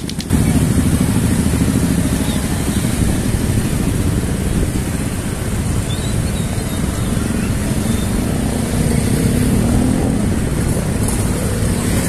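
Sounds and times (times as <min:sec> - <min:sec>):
motorcycle and scooter traffic: 0:00.0 - 0:12.0.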